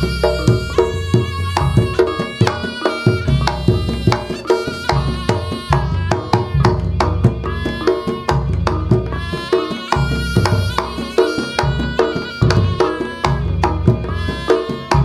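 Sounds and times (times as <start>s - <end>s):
hand drums: 0.0s - 15.0s
pitched melody: 0.0s - 15.0s
struck metal percussion: 0.0s - 15.0s.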